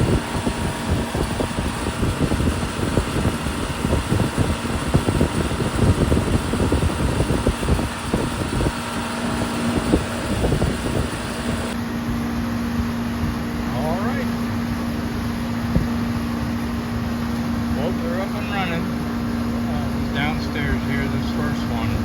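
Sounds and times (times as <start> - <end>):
air conditioner unit humming: 0.0 - 22.0.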